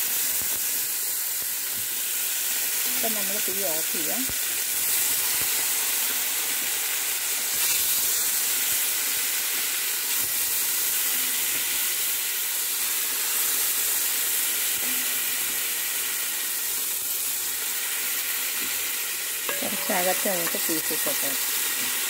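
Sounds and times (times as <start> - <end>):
meat sizzling in hot fat: 0.0 - 22.0.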